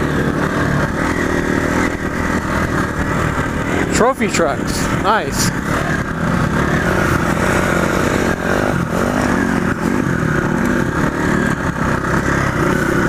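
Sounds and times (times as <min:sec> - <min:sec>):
motorcycle engine running: 0:00.0 - 0:13.0
steady rush of noise: 0:00.0 - 0:13.0.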